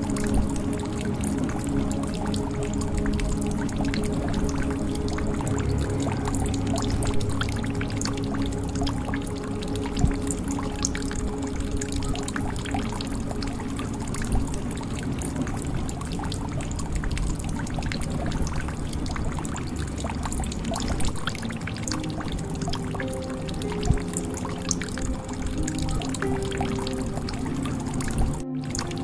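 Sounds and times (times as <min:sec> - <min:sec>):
water drips and splashes: 0:00.0 - 0:29.0
water pouring into a jug: 0:00.0 - 0:29.0.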